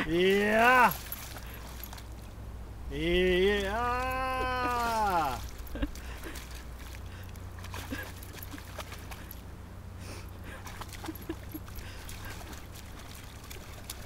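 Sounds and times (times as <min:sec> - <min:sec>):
dog wading through water: 0:00.0 - 0:14.0
low steady hum: 0:00.0 - 0:14.0.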